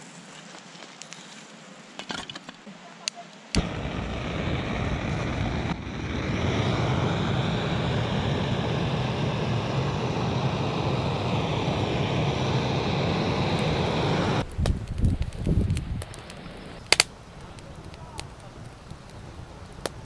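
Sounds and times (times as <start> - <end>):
blowtorch flame rushing: 3.6 - 20.0.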